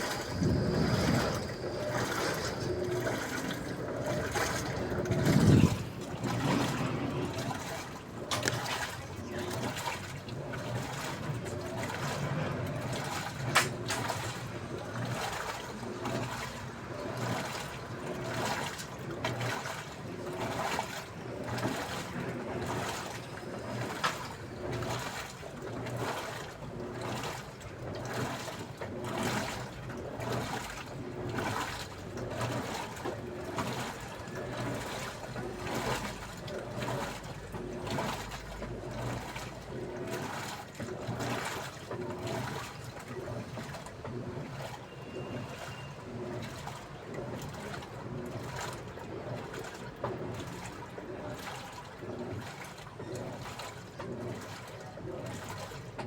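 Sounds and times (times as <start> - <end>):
water sloshing in washing machine: 0.0 - 56.0.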